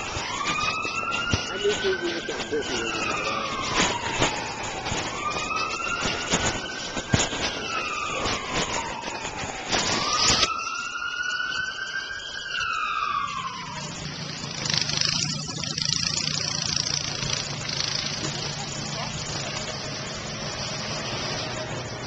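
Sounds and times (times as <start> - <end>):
emergency siren wailing: 0.0 - 22.0.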